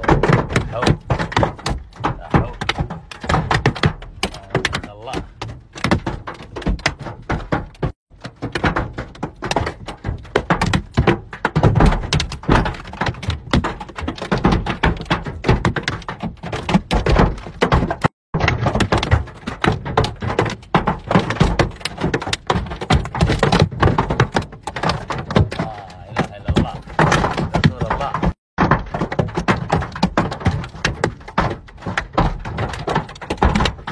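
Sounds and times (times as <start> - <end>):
hail clattering on car roof: 0.0 - 33.9.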